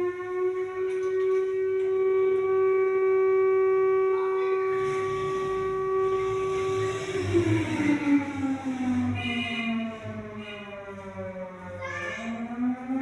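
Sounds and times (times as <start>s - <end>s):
siren wailing tone: 0.0s - 13.0s.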